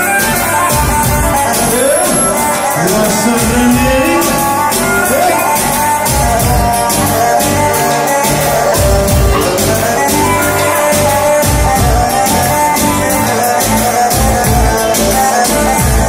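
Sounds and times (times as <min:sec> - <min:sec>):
loud music with drum beat: 0:00.0 - 0:16.0
sliding melody line: 0:00.0 - 0:16.0.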